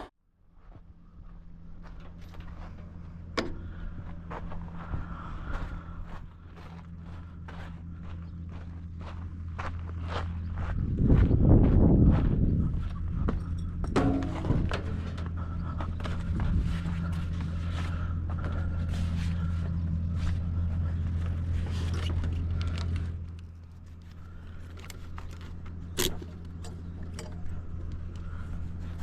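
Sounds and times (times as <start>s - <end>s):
engine idling: 0.9s - 29.0s.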